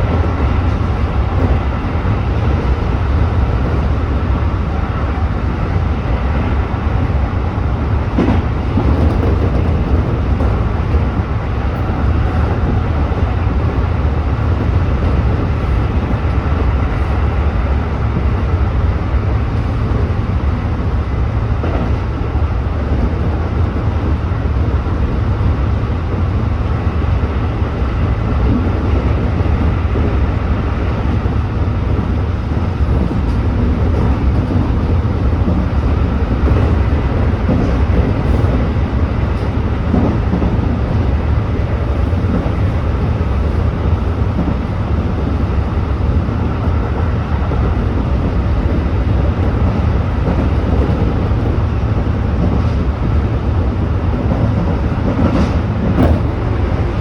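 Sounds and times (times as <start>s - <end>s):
electric train wheels rumbling on rail: 0.0s - 57.0s.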